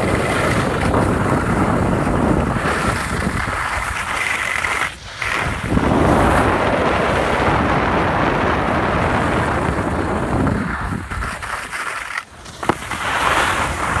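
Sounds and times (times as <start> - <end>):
sliding over packed snow: 0.0 - 14.0
wind rushing over microphone: 0.0 - 14.0.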